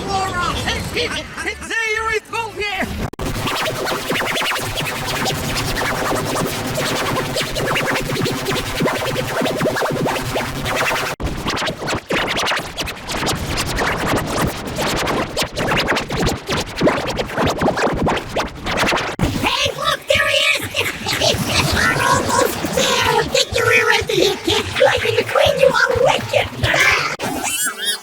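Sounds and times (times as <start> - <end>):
distorted processed cartoon audio: 0.0 - 28.0.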